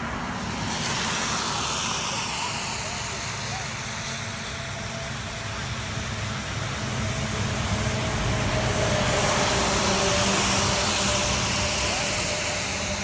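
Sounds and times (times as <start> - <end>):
engine hum: 0.0 - 13.0
rushing hiss: 0.2 - 13.0.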